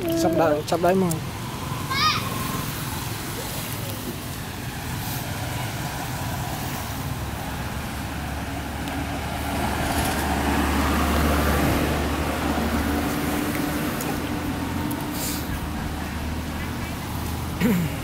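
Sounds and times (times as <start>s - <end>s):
traffic noise: 0.0s - 18.0s
vehicle engine hum: 0.0s - 18.0s.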